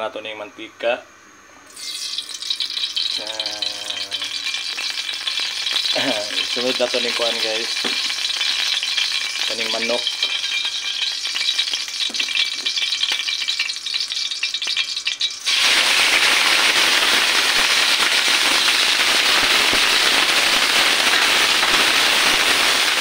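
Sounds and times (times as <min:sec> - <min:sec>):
hot oil crackling and popping: 0:01.6 - 0:23.0
chicken sizzling in oil: 0:01.7 - 0:23.0.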